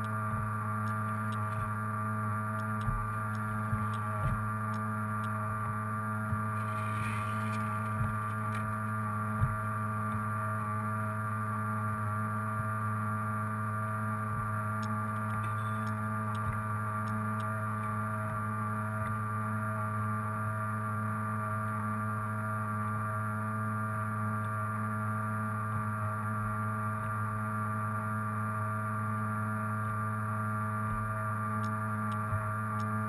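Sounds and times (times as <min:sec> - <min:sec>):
boat motor humming with whine: 0:00.0 - 0:33.0.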